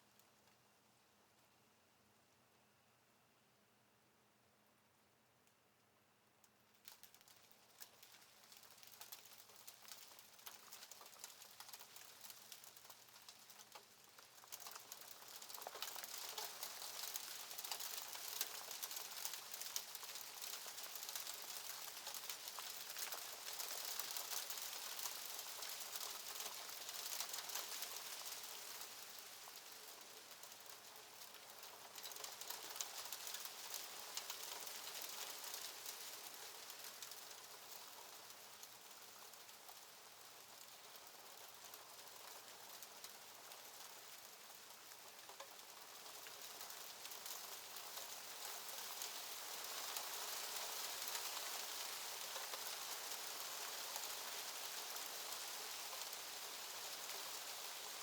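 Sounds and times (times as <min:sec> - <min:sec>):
hailstones ticking on a surface: 0:06.8 - 0:58.0.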